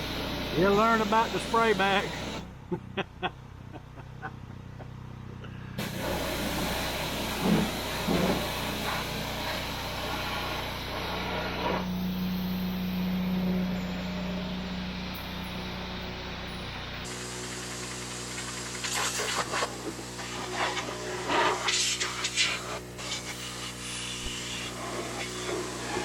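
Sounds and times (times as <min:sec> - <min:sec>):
pressure washer spraying: 0:00.0 - 0:02.4, 0:05.8 - 0:26.0.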